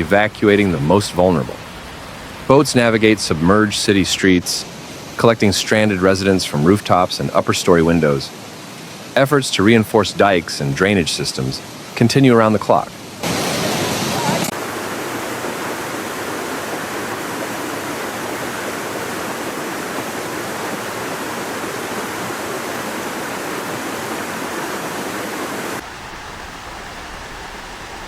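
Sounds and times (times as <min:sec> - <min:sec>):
fast-flowing water rushing: 0:00.0 - 0:28.0.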